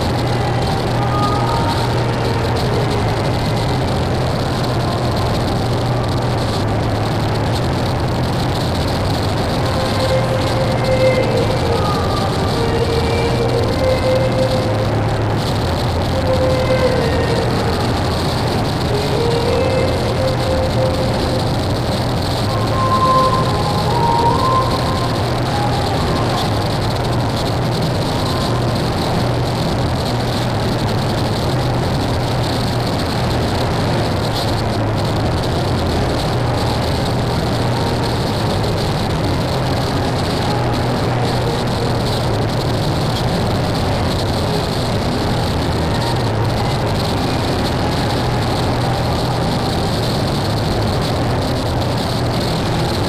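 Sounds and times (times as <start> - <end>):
harsh noise music: 0.0 - 53.0
low droning hum: 0.0 - 53.0.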